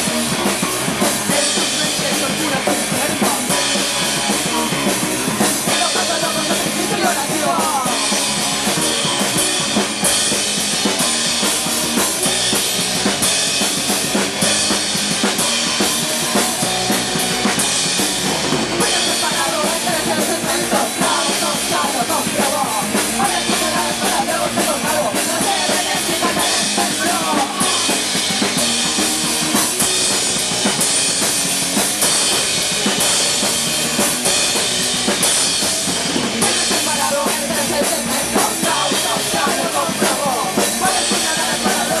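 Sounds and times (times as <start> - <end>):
punk band playing: 0.0 - 42.0.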